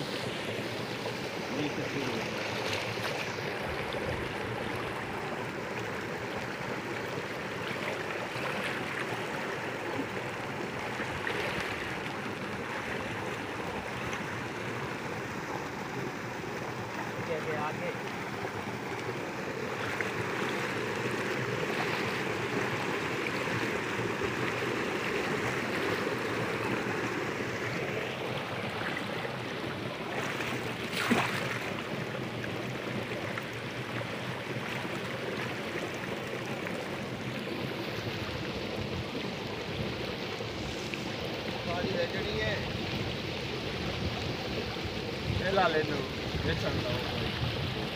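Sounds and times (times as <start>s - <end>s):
water rushing through channel: 0.0s - 47.9s.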